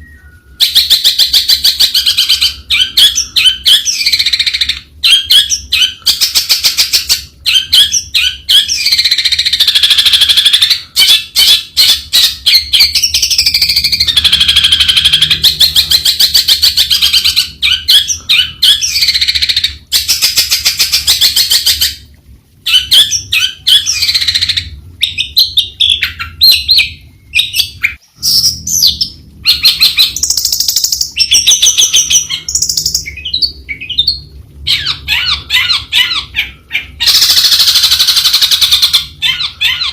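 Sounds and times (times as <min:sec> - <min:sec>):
bird singing rapid chattering notes: 0:00.6 - 0:21.9, 0:22.7 - 0:39.9.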